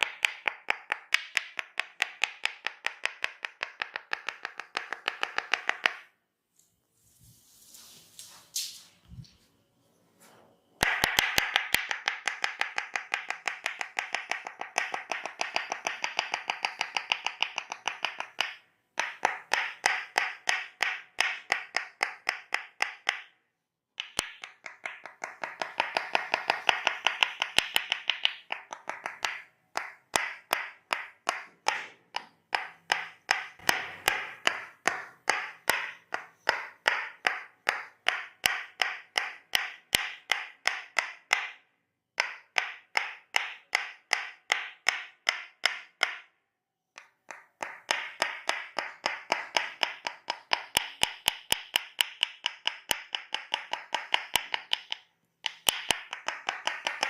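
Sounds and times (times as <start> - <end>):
wooden mallet tapping wooden wedge: 0.0 - 6.2, 10.8 - 46.4, 47.0 - 57.0.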